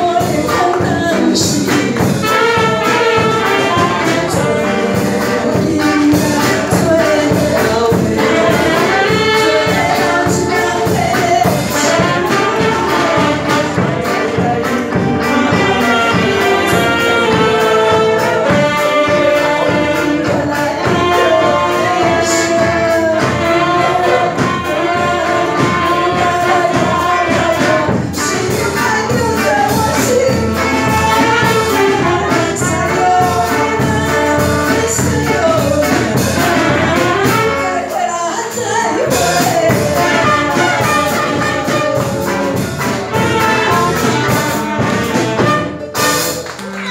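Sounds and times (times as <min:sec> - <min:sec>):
woman singing into microphone: 0:00.0 - 0:45.6
drum kit steady beat: 0:00.0 - 0:46.9
saxophones and brass: 0:00.0 - 0:46.9.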